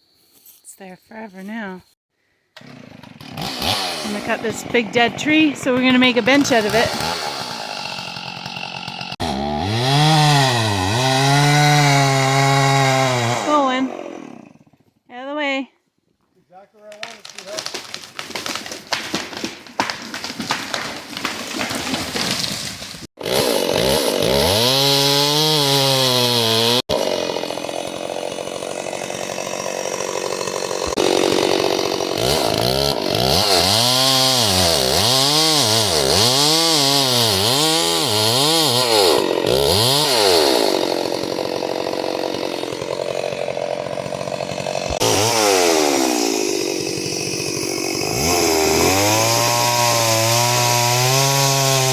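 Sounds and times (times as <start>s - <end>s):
chainsaw cutting into tree: 2.6s - 15.0s, 16.9s - 51.9s.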